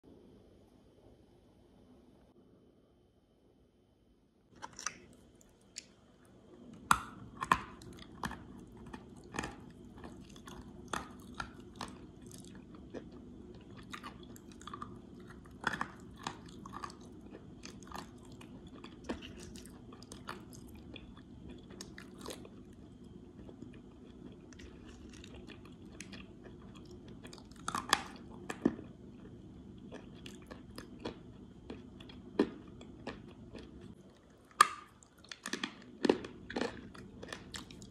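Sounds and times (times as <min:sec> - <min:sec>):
low steady hum: 0:00.0 - 0:37.9
chewing and crunching clay lumps: 0:04.5 - 0:06.0, 0:06.6 - 0:37.9.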